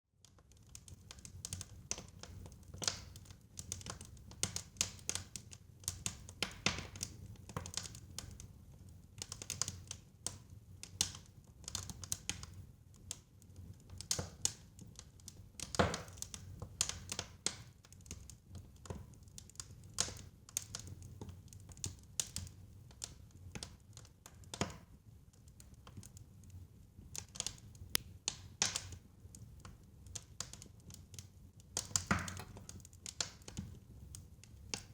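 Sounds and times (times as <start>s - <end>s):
fire crackling and popping: 0.2s - 34.9s
low steady fire rumble: 0.3s - 34.9s.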